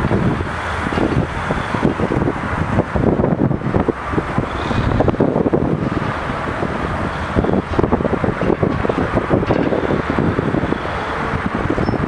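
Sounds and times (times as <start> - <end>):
crane engine rumbling: 0.0 - 12.0
wind buffeting microphone: 0.0 - 12.0.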